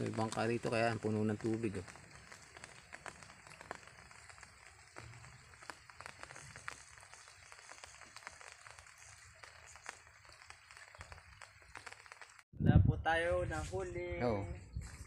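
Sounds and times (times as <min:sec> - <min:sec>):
soft rain hiss: 0:00.0 - 0:12.4
raindrops ticking: 0:00.0 - 0:12.5.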